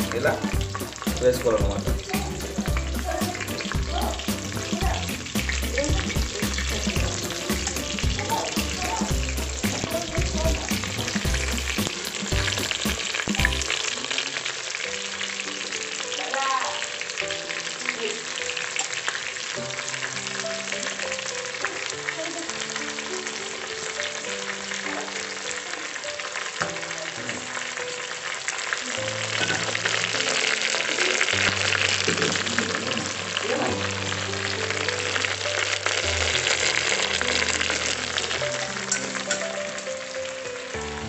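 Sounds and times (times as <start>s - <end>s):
vegetables sizzling in oil: 0.0s - 41.0s.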